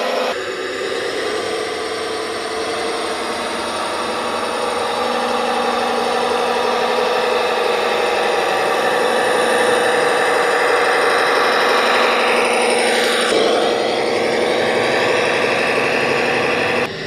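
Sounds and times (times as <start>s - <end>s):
toy dump truck engine drone: 0.0s - 17.0s.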